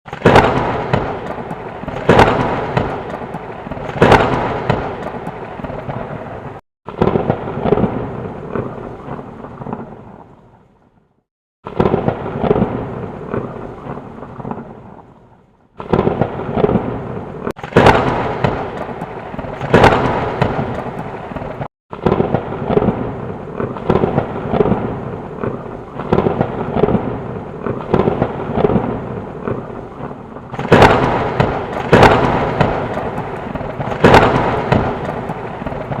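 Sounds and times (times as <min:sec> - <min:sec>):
sharp thunder cracks: 0:00.1 - 0:10.4, 0:11.6 - 0:15.0, 0:15.8 - 0:36.0
thunder rumbling: 0:00.1 - 0:10.7, 0:11.6 - 0:36.0.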